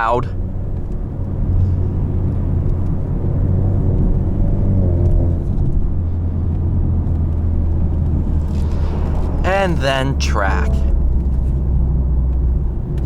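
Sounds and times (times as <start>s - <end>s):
car engine low drone: 0.0s - 13.0s.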